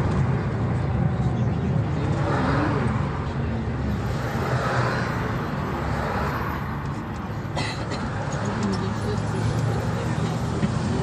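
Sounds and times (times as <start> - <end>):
bus engine hum: 0.0 - 11.0
road noise: 0.0 - 11.0.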